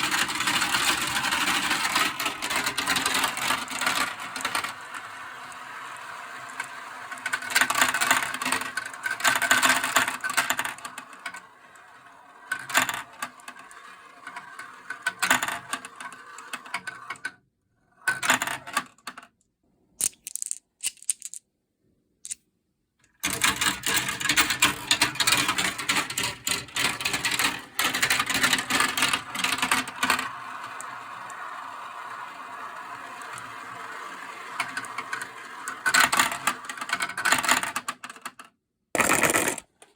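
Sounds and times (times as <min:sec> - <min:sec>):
marbles rolling down plastic tracks: 0:00.0 - 0:17.4, 0:18.0 - 0:19.2, 0:20.0 - 0:21.4, 0:23.2 - 0:39.8.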